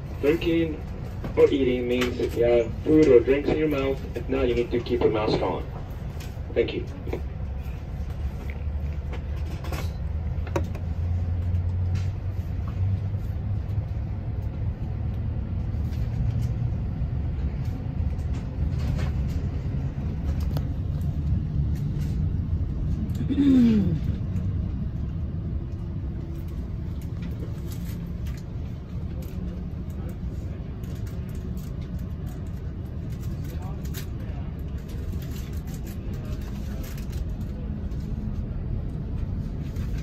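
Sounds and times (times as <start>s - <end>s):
passenger train rumbling: 0.0s - 40.0s.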